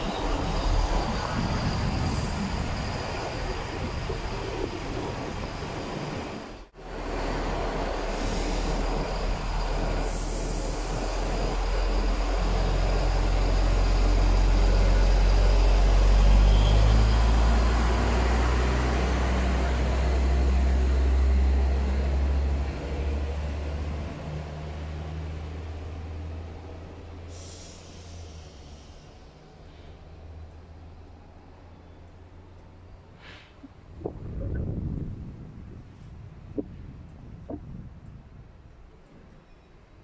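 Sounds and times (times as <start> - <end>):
train passing low drone: 0.0 - 40.0.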